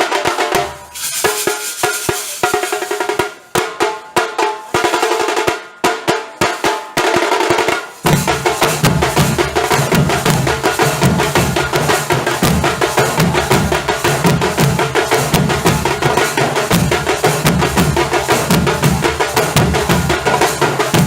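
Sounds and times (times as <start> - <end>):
drum ensemble drumming: 0.0 - 21.0.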